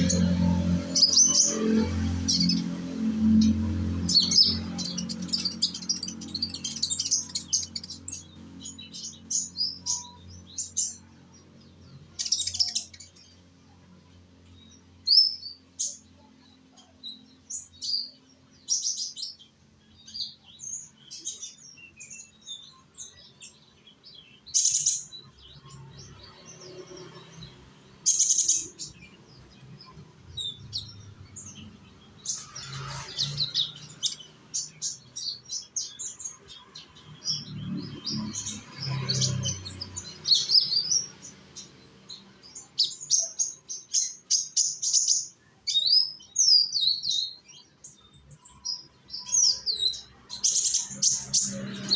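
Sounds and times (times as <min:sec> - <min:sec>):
bird singing high chirps: 0:00.0 - 0:51.9.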